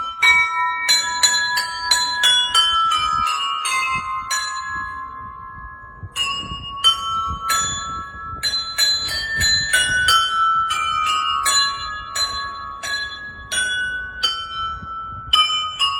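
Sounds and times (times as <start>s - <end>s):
bells ringing: 0.0s - 15.9s.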